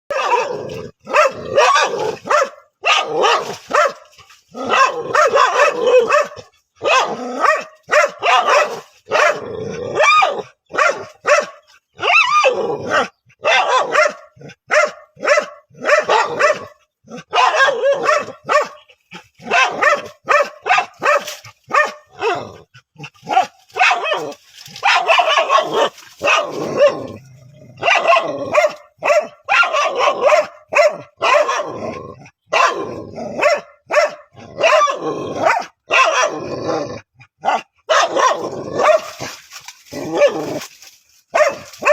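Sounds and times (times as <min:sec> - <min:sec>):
dog barking: 0:00.1 - 0:22.6, 0:23.2 - 0:27.1, 0:27.8 - 0:36.5, 0:37.4 - 0:40.7, 0:41.3 - 0:41.9.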